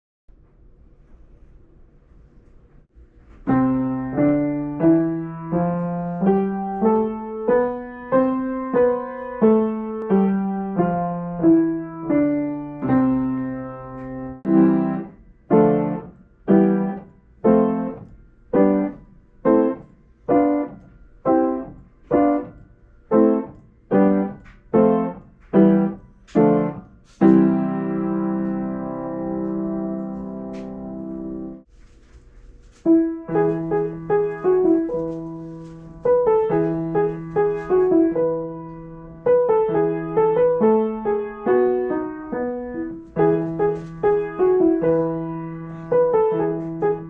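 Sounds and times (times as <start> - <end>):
piano scale: 3.3 - 31.7, 32.7 - 47.0
short detached piano chords: 3.4 - 31.7, 32.9 - 47.0.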